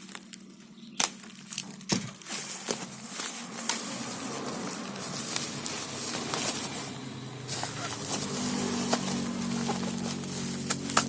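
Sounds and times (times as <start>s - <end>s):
packaging rustling: 0.0s - 11.0s
plastic crinkling: 0.0s - 11.0s.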